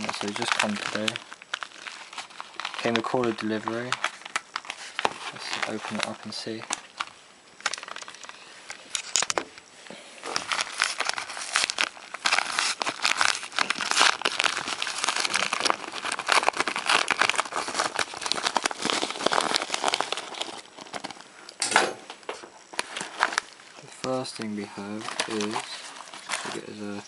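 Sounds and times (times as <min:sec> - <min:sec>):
packaging crinkling: 0:00.0 - 0:09.4, 0:10.2 - 0:21.6, 0:22.6 - 0:27.0.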